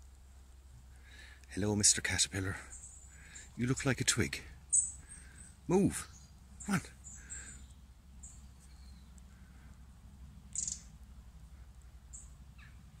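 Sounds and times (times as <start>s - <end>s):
low steady rumble: 0.0s - 13.0s
small birds chirping: 0.0s - 13.0s.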